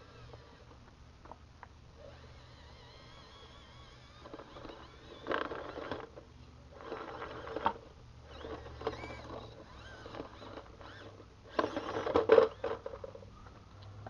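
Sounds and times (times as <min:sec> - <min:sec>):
electric motor whirring: 0:00.0 - 0:00.8, 0:02.0 - 0:13.0.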